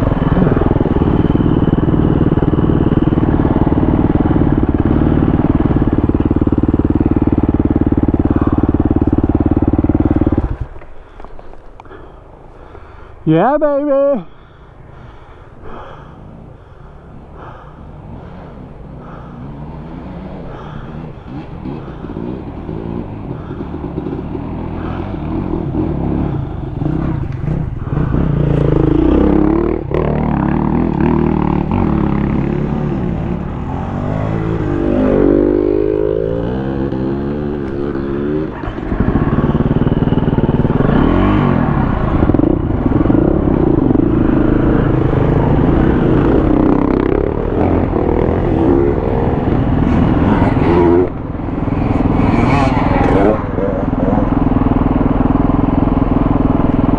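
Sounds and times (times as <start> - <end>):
dirt bike engine revving: 0.0 - 13.0, 14.4 - 56.9.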